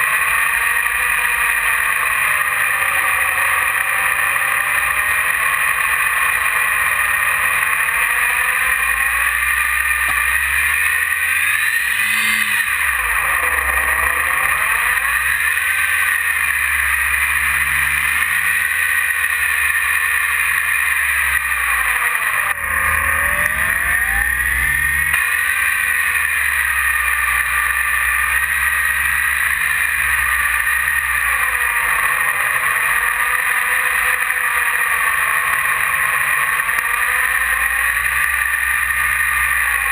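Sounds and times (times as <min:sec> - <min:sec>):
electric motor and propeller whining: 0:00.0 - 0:39.9.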